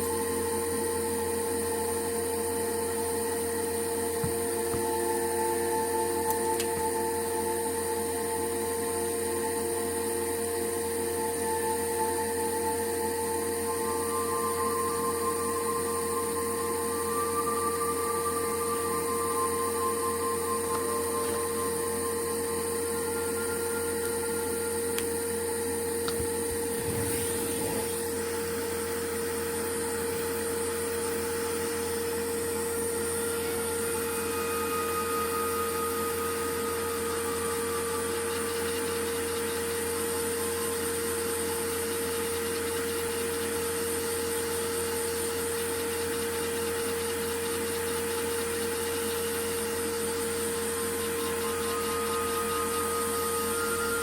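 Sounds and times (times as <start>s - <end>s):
small motor whirring: 10.8s - 54.0s.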